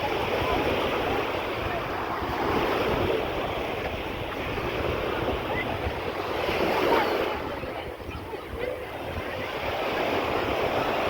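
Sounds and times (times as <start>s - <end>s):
waves washing onto beach: 0.0s - 11.0s
wind on microphone: 0.0s - 11.0s.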